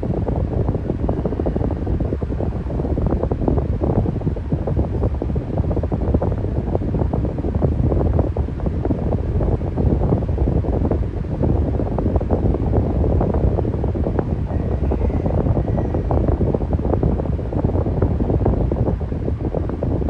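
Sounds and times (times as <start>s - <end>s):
electric fan running: 0.0s - 20.0s.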